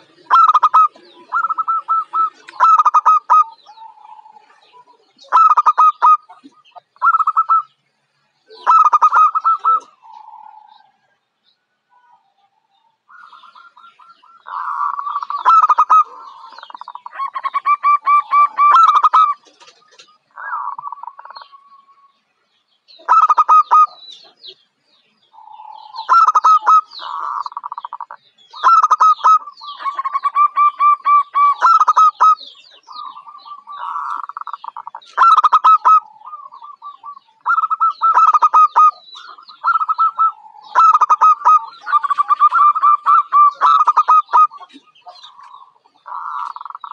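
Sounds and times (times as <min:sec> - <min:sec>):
dove cooing: 0:00.0 - 0:07.8, 0:08.5 - 0:11.1, 0:11.9 - 0:22.2, 0:23.0 - 0:24.6, 0:25.3 - 0:46.9.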